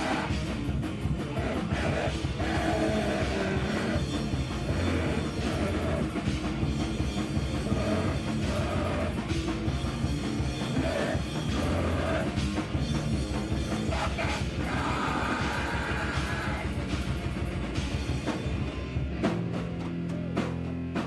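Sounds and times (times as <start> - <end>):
distorted guitar: 0.0 - 21.0
drum kit: 0.0 - 21.0.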